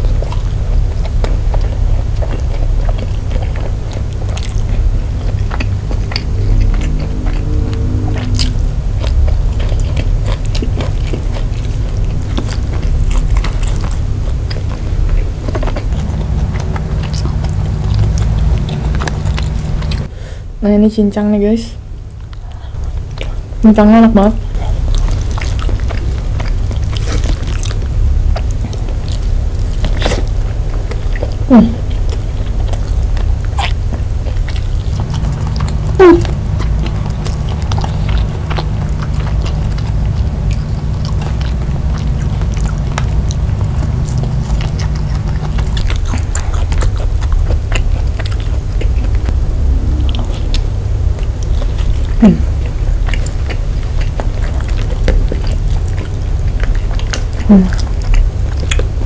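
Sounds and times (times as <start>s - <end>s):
close chewing mouth sounds: 0.0s - 20.1s, 21.9s - 59.0s
steady low hum: 0.0s - 59.0s.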